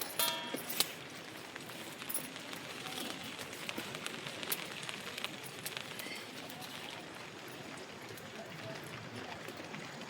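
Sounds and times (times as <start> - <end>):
rain hissing: 0.0 - 10.0
raindrops ticking on surfaces: 0.0 - 10.0.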